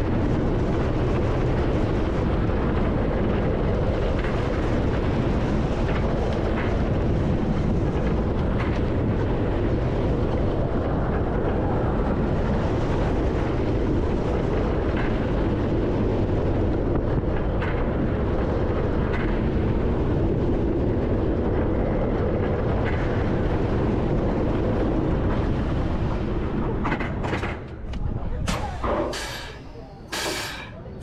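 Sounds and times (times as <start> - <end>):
roller coaster wheels rumbling: 0.0 - 31.0
wind rushing over microphone: 0.0 - 31.0.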